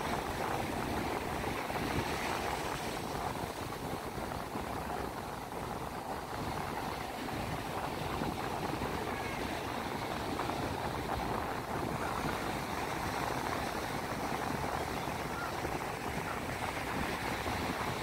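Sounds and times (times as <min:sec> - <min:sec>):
ocean surf on beach: 0:00.0 - 0:18.0.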